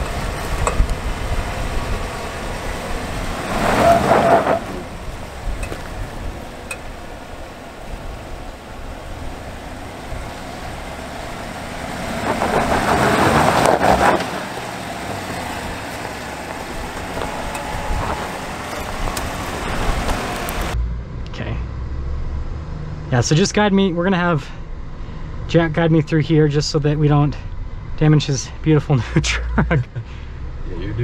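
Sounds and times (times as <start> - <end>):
truck engine rumbling: 0.0 - 31.0.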